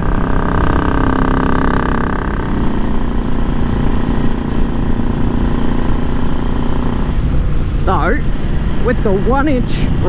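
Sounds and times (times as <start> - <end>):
motorcycle engine running: 0.0 - 10.0
wind rumble on microphone: 0.0 - 10.0.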